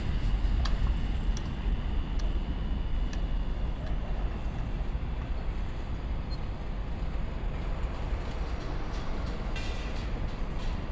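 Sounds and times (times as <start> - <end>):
city background noise: 0.0 - 10.9
freight train rumble: 0.0 - 10.9.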